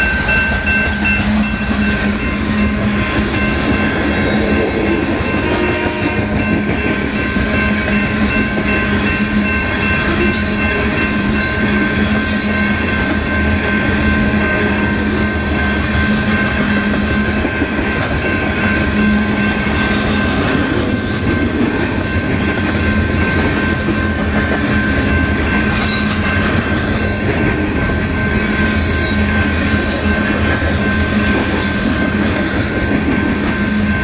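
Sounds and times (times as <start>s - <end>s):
high ringing tone: 0.0s - 34.0s.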